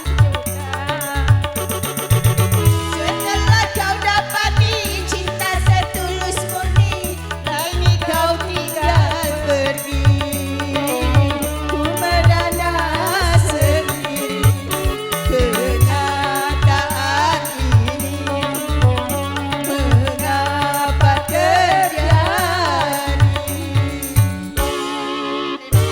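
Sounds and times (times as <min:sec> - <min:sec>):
hand drums beating: 0:00.0 - 0:24.9
wavering melody with vibrato: 0:00.0 - 0:25.9.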